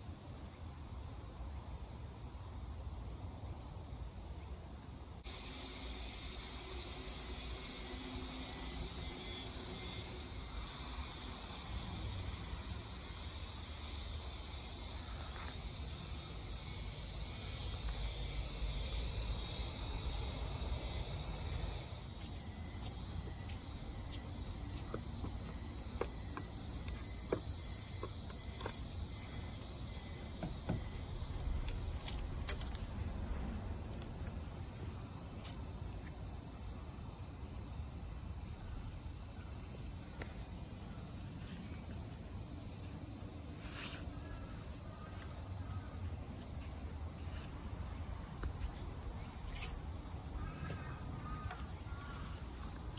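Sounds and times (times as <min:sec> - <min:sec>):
insects chorus: 0:00.0 - 0:52.9.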